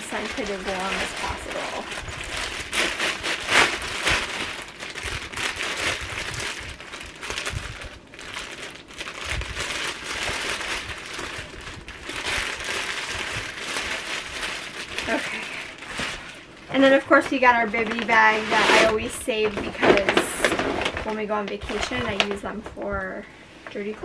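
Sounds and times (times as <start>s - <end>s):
plastic bag crinkling: 0.0s - 22.9s.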